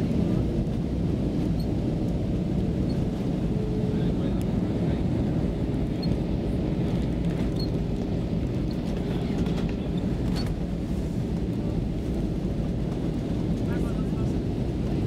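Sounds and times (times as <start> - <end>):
low rumble of jet engines: 0.0 - 15.0.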